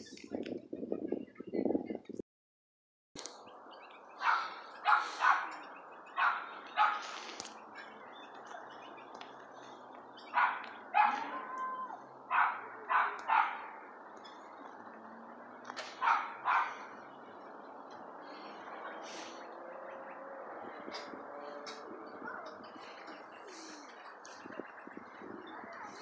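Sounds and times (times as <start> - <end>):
animal barking calls: 4.1 - 8.9, 9.7 - 26.0.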